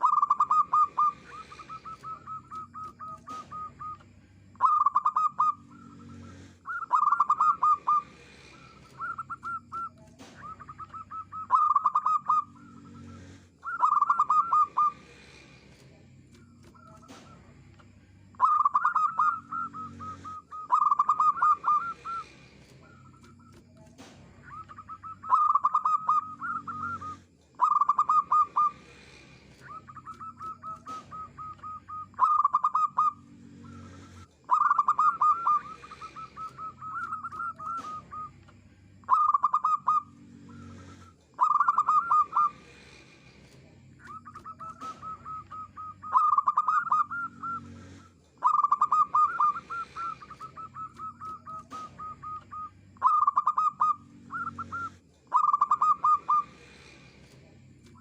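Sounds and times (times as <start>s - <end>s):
dove cooing: 0.0s - 17.6s, 18.3s - 57.0s.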